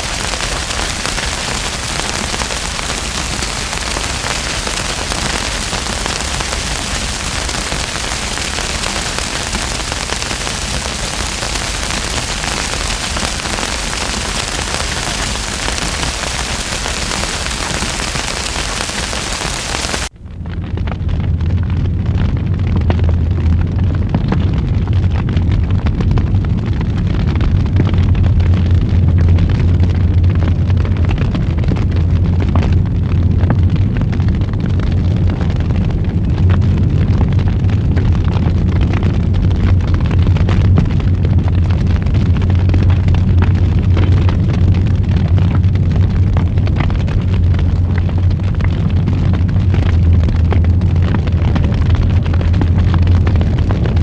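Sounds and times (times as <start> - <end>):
fire crackling and popping: 0.0 - 54.0
roar of fire flames: 0.0 - 54.0.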